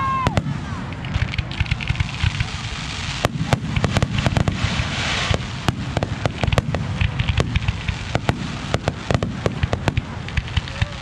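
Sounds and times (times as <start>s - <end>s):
crackling hiss: 0.0s - 11.0s
firework bangs and pops: 0.0s - 11.0s.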